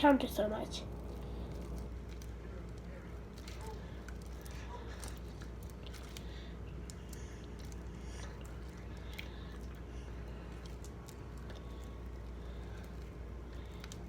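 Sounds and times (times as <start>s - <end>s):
low hum: 0.0s - 14.0s
slime squelching: 0.0s - 14.0s.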